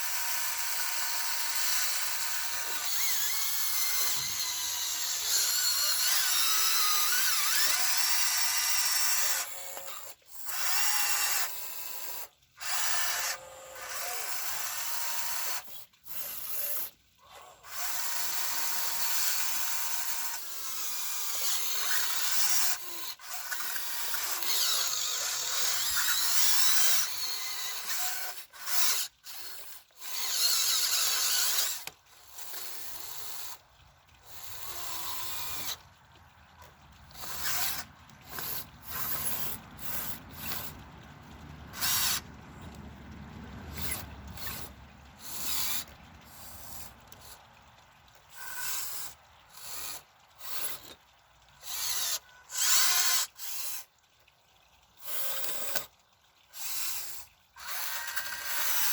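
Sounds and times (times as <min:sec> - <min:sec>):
electric motors whirring: 0:00.0 - 0:35.9, 0:36.5 - 0:47.5, 0:48.4 - 0:51.0, 0:51.6 - 0:53.9, 0:56.6 - 0:58.9.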